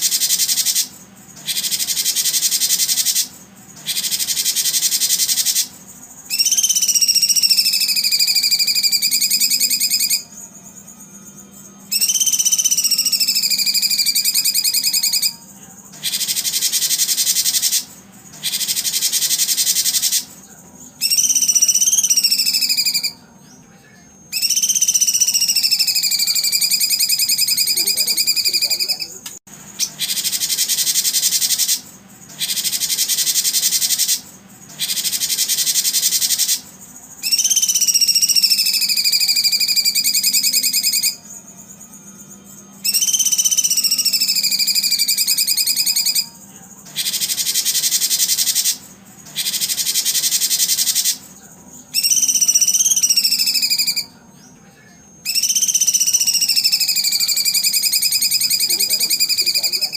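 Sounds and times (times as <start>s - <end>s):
songbird trills and whistles: 0.0s - 23.7s, 24.3s - 59.9s.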